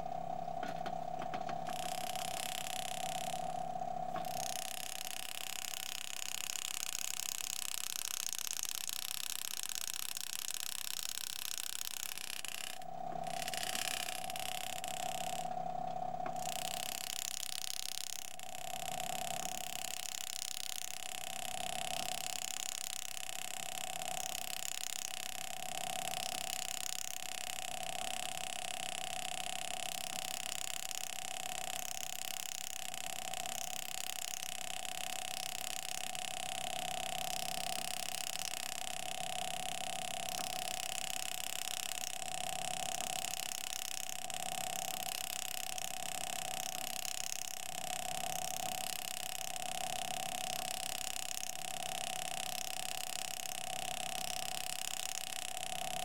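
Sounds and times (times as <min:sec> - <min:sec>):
machine whine: 0:00.0 - 0:56.0.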